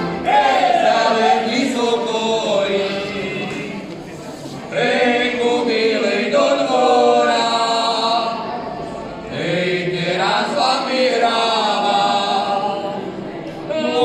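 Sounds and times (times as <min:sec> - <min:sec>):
men singing together: 0:00.0 - 0:03.9, 0:04.7 - 0:08.4, 0:09.3 - 0:14.0.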